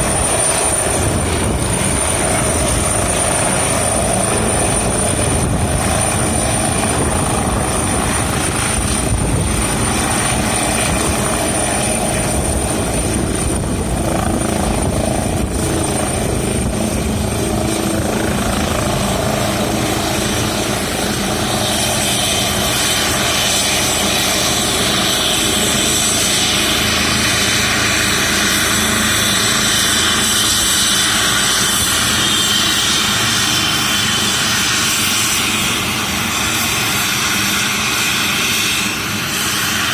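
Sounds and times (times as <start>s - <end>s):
helicopter rotor and engine: 0.0s - 39.9s
high turbine whine: 0.0s - 39.9s.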